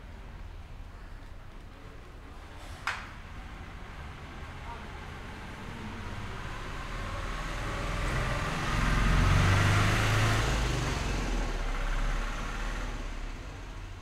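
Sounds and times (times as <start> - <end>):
vehicle passing by: 2.3 - 14.0.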